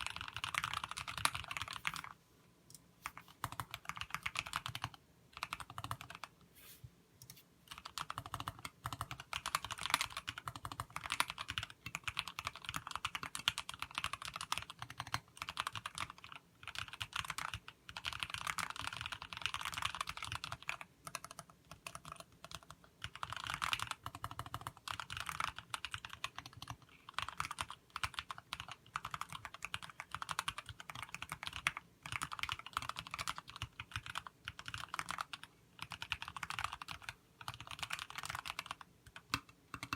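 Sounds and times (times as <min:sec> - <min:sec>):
mechanical keyboard typing: 0:00.0 - 0:06.3, 0:07.2 - 0:39.9.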